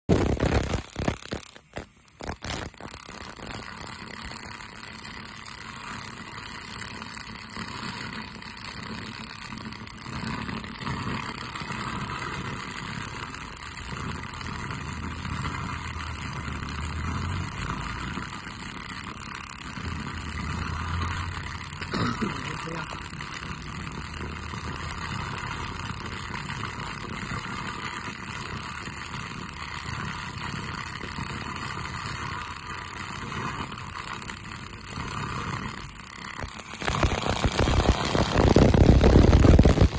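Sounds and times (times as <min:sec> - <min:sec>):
laser cleaning machine hissing: 0:00.2 - 0:39.9.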